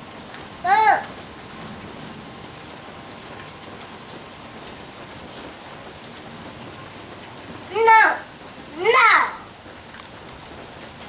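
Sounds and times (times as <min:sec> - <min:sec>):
rain falling on ground: 0:00.0 - 0:11.0.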